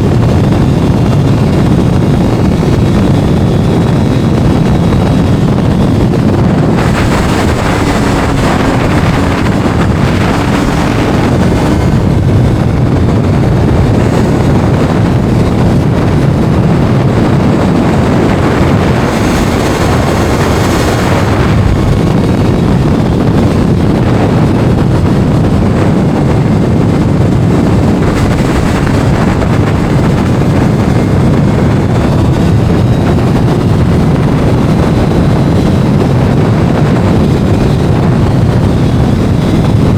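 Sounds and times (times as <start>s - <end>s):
motorcycle engine at speed: 0.0s - 39.9s
wind buffeting microphone: 0.0s - 39.9s.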